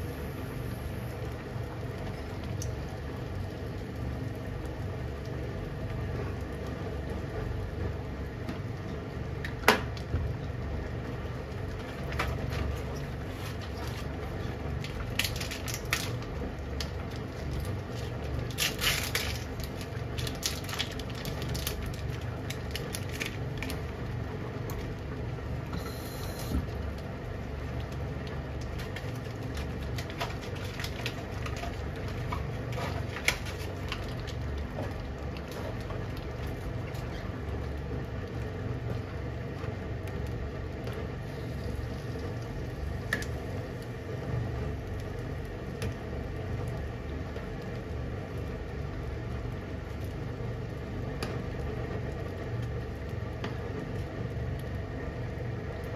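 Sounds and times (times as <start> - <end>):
curry bubbling in a pan: 0.0 - 55.9
steady low hum: 0.0 - 55.9.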